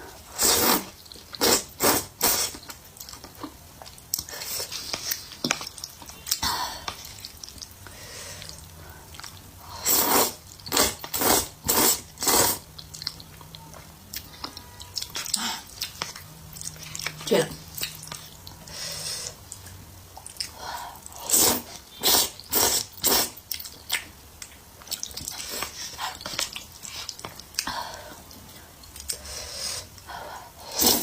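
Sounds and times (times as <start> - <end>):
person chewing crunchy food: 0.8 - 27.7.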